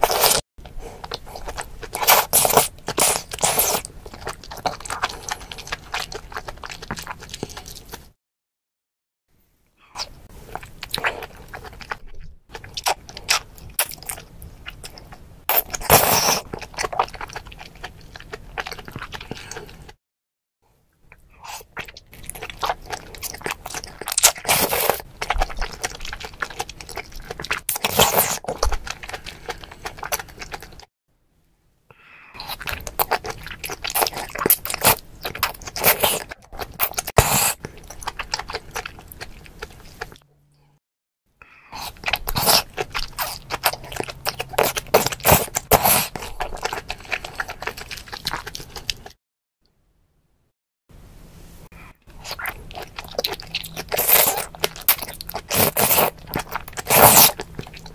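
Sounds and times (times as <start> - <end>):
wet chewing of oysters: 0.0 - 8.2, 10.0 - 20.0, 21.1 - 30.9, 32.4 - 40.3, 41.7 - 49.2, 52.0 - 57.9.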